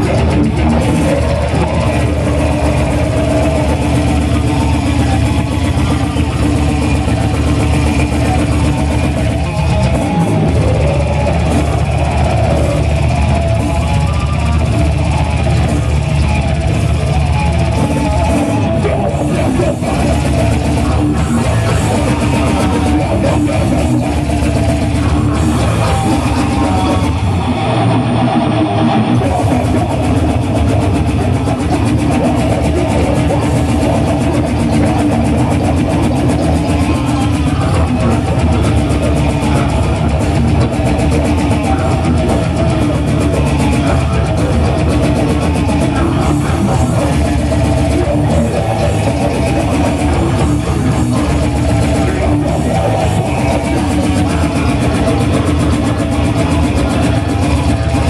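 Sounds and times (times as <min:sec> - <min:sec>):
death metal band playing: 0:00.0 - 0:58.0.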